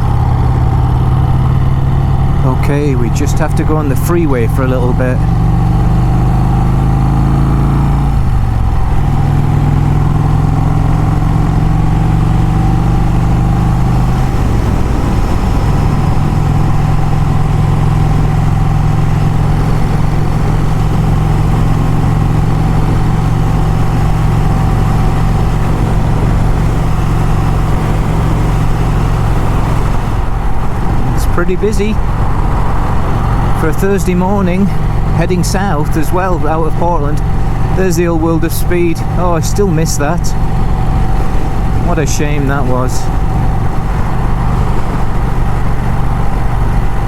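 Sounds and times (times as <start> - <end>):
motorcycle engine running: 0.0 - 47.0
steady rushing noise: 0.0 - 47.0.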